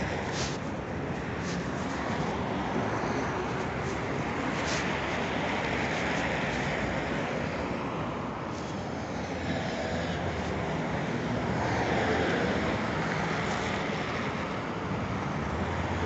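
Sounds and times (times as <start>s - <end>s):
trolleybus running: 0.0s - 16.0s.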